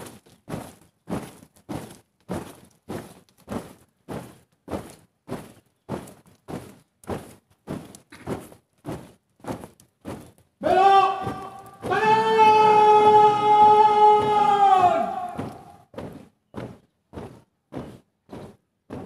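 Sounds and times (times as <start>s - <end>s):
marching footsteps on dirt: 0.0s - 19.0s.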